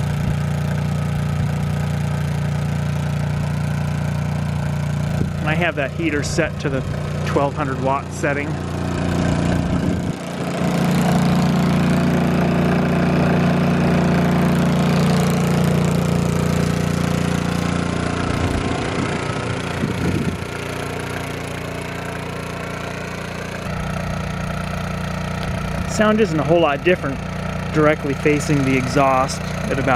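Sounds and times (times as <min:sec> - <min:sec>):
generator engine hum: 0:00.0 - 0:29.9.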